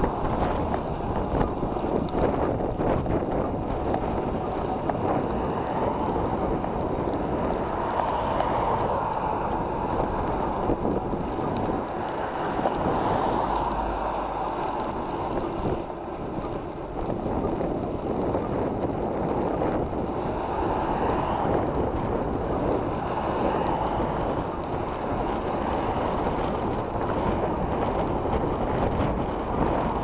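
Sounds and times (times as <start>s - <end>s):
road travel rumble: 0.0s - 30.0s
wind noise on microphone: 0.0s - 30.0s.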